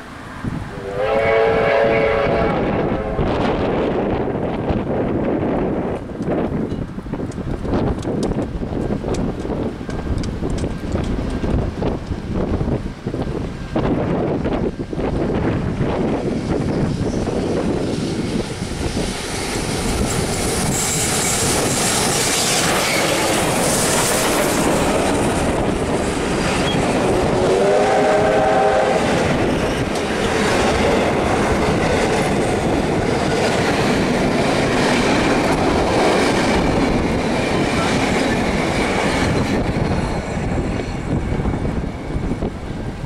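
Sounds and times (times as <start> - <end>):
steam train rumbling past: 0.0 - 43.0.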